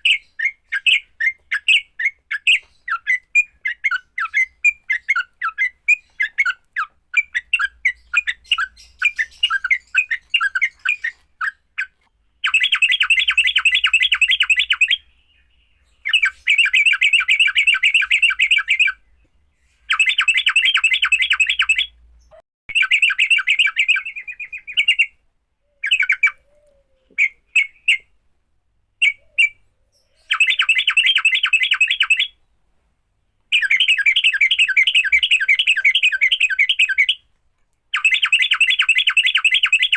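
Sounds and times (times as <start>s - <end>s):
bird chattering and trilling: 0.0s - 25.1s, 25.7s - 28.1s, 29.0s - 32.4s, 33.5s - 37.2s, 37.9s - 39.9s.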